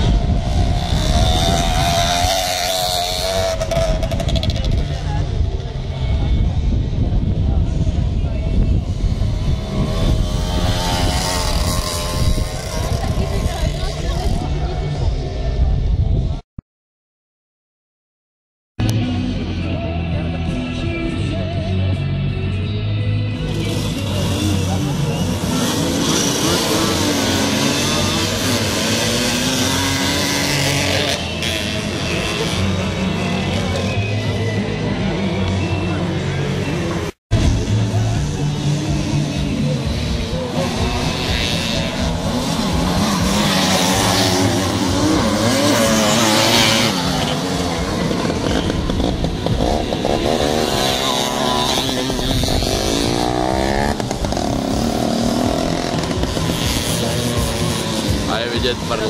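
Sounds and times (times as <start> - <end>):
small motorcycle engines revving: 0.0 - 15.5, 23.3 - 59.0.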